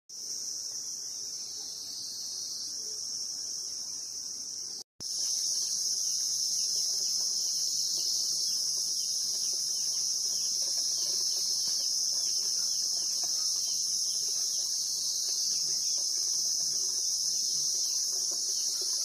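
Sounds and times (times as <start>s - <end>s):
high-pitched insect drone: 0.2s - 19.0s.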